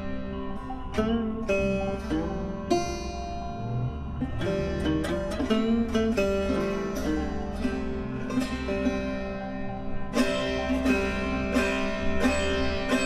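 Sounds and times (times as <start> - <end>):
plucked string instrument: 0.0 - 13.0
steady low bass: 0.0 - 13.0.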